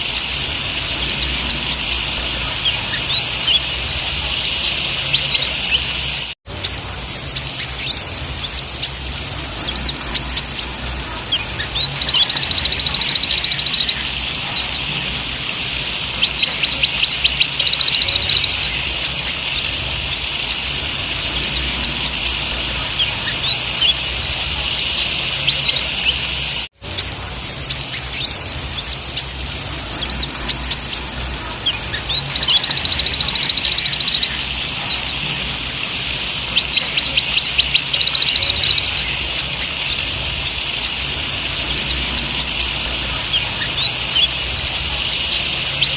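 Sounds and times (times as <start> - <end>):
bird chirping and buzzy trills: 0.0 - 45.9
steady hiss: 0.0 - 45.9.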